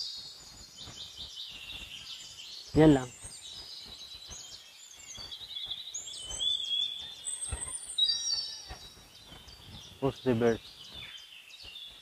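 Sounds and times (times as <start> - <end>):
birds chirping and trilling: 0.0 - 12.0.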